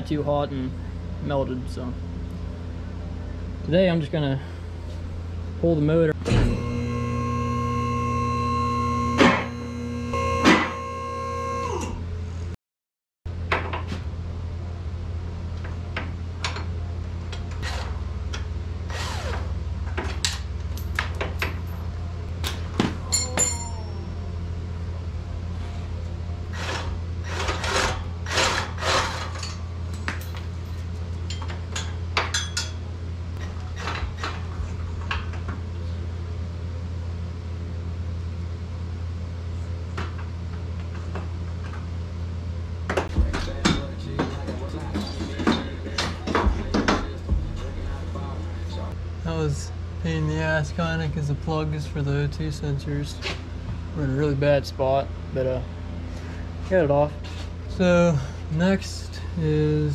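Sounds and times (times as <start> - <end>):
steady low hum: 0.0 - 12.6, 13.3 - 59.9.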